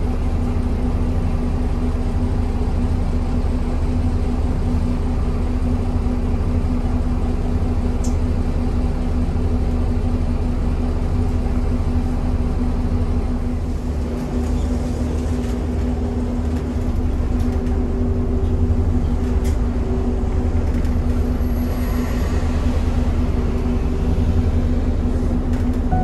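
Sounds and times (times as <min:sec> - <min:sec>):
bus engine rumble: 0:00.0 - 0:26.0
constant hum: 0:00.0 - 0:26.0.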